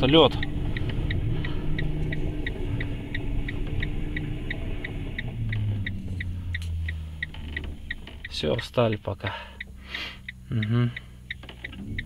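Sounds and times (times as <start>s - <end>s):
flasher relay ticking: 0.0s - 12.0s
low vehicle rumble: 0.0s - 12.0s.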